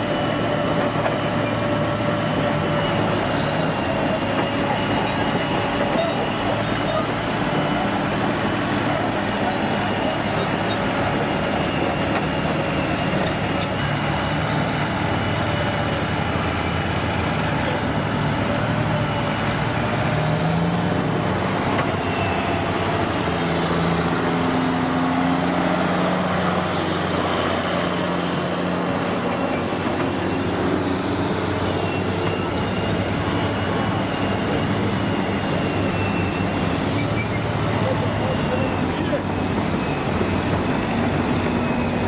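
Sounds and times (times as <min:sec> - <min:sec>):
heavy truck engine running: 0:00.0 - 0:42.0.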